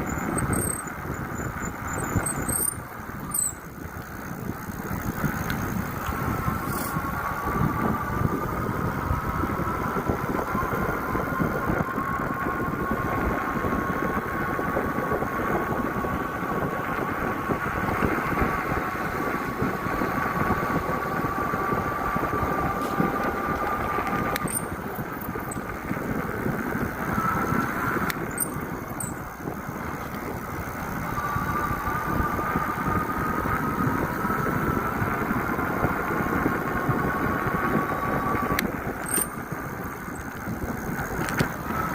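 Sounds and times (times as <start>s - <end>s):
bike running noise: 0.0s - 41.9s.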